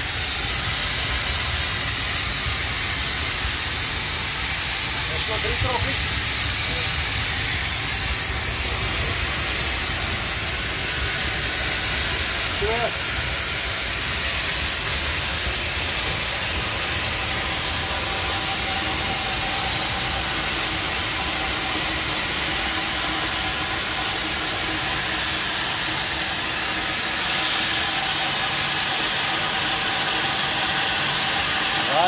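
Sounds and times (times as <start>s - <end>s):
steam hissing: 0.0s - 32.0s.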